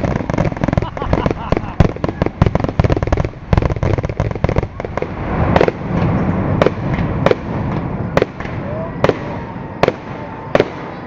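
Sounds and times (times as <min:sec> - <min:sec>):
continuous rumble: 0:00.0 - 0:11.0
fireworks booming: 0:00.0 - 0:11.0
fireworks crackling bangs: 0:00.0 - 0:11.0.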